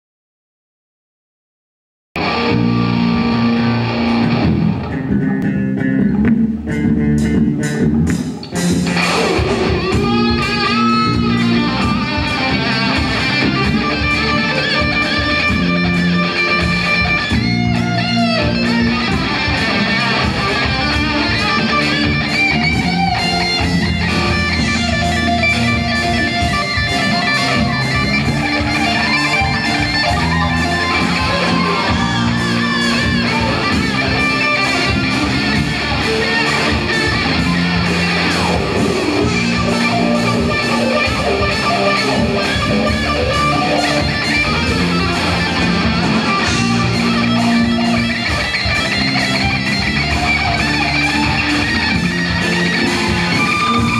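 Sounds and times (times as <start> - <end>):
electric guitar solo: 2.2 - 53.9
rock band playing: 2.2 - 53.9.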